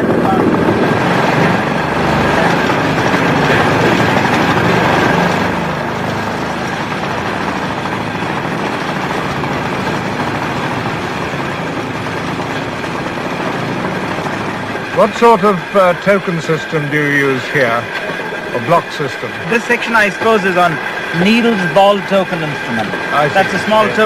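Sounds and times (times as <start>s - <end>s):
rail and wheel noise: 0.0s - 24.0s
small engine running: 0.0s - 24.0s.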